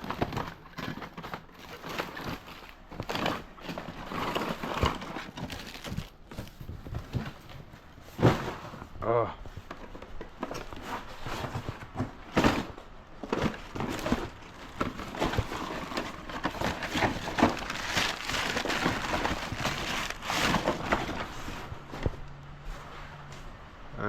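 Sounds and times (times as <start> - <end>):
parts knocking and clattering: 0.0 - 22.4
rustling: 0.0 - 23.6.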